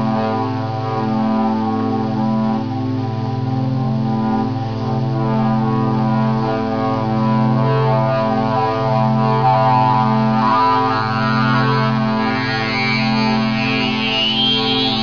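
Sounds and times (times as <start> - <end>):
music with sustained notes: 0.0 - 15.0.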